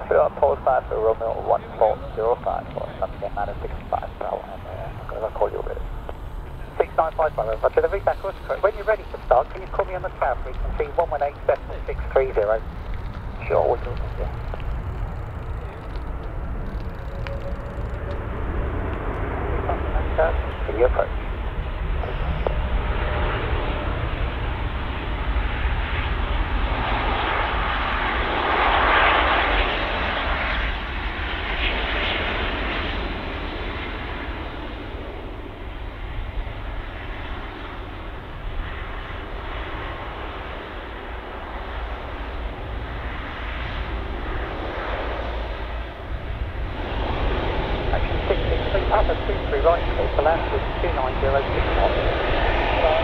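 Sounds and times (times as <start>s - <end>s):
jet engines rushing: 0.0s - 53.0s.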